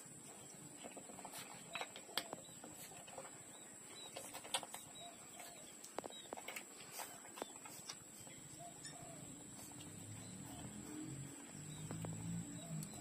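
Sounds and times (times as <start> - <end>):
soft puppy vocal sounds: 0.0 - 13.0.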